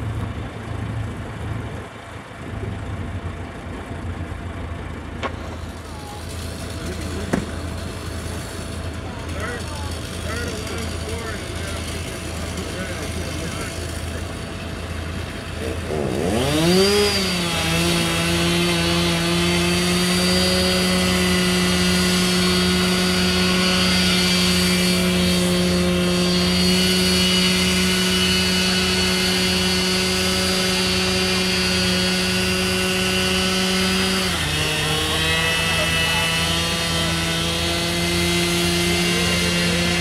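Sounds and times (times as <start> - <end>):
chainsaw cutting wood: 5.2 - 40.0.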